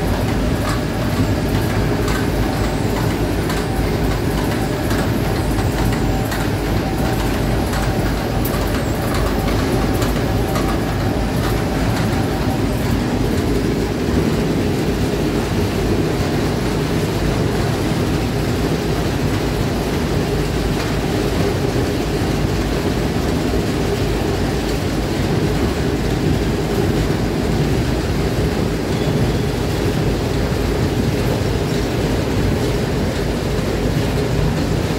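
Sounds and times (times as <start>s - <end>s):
sorting machine rumbling and rattling: 0.0s - 34.9s.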